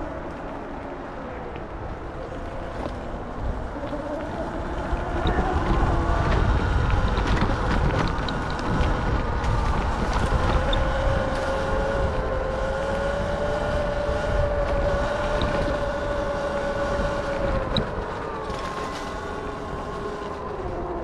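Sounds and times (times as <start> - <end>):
tyres rumbling on dirt trail: 0.0 - 21.0
wind on microphone: 0.0 - 21.0
electric bike motor whining: 1.8 - 21.0.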